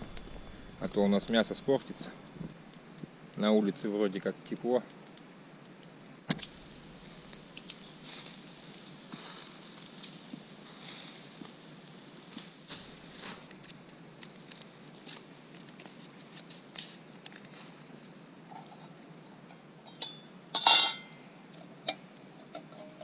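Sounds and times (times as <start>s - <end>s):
faint scattered crackles: 0.0s - 23.0s
low steady background noise: 0.0s - 23.0s.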